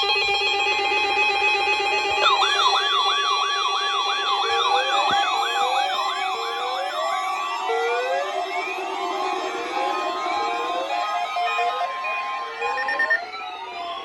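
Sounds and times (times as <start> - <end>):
siren rising whoops: 2.1 - 14.0
electronic siren warbling: 2.2 - 14.0.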